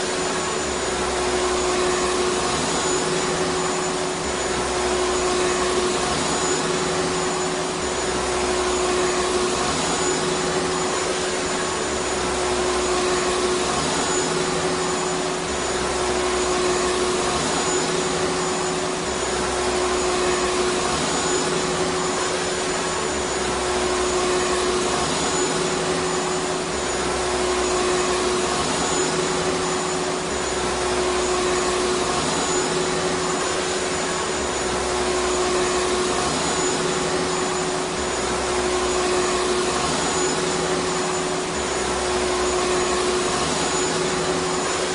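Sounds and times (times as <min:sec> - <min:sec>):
vacuum cleaner motor running: 0:00.0 - 0:44.9.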